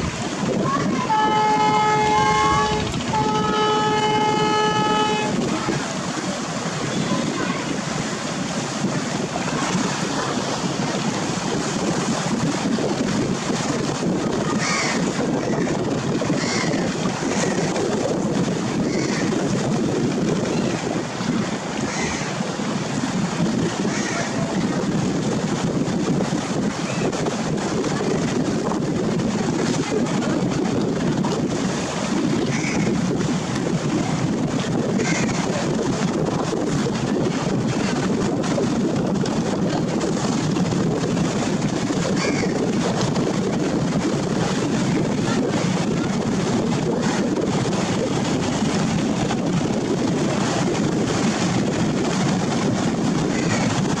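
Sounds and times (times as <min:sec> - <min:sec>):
boat engines rumbling: 0:00.0 - 0:54.0
bow wave rushing through water: 0:00.0 - 0:54.0
wind noise on microphone: 0:00.0 - 0:54.0.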